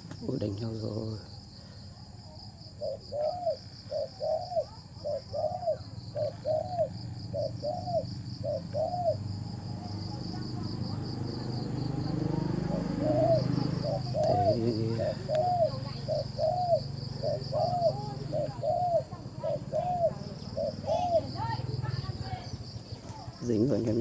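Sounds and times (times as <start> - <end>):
high insect trill: 0.0 - 24.0
dove cooing: 2.0 - 24.0.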